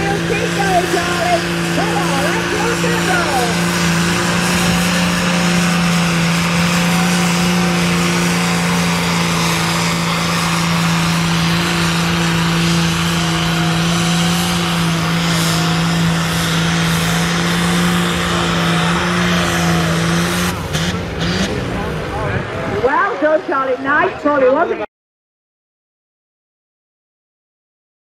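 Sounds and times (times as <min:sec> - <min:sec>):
tractor diesel engine at full load: 0:00.0 - 0:24.7.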